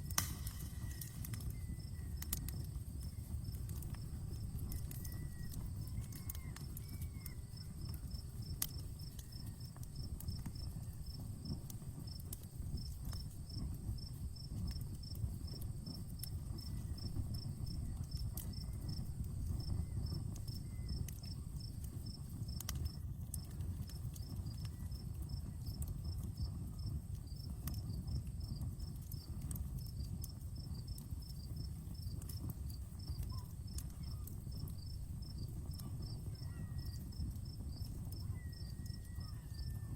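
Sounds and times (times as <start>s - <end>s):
cricket chirping: 0.0s - 39.8s
campfire crackling and popping: 0.0s - 39.9s
rush of burning flames: 0.0s - 39.9s.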